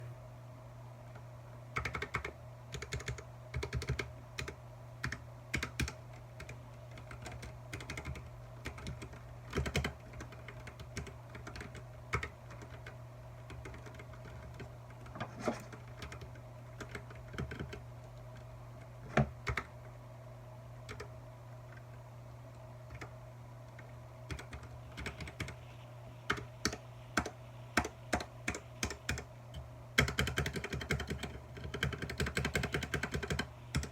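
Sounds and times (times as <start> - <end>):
steady low hum: 0.0 - 33.9
mechanical keyboard typing: 1.8 - 19.7, 20.8 - 21.1, 22.9 - 23.2, 23.8 - 25.6, 26.3 - 33.9.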